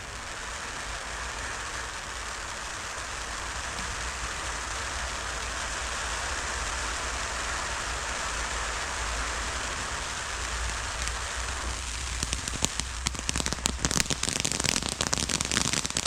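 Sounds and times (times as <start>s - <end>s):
faint firework crackles: 0.0s - 16.0s
firework fountain hissing: 0.0s - 16.0s.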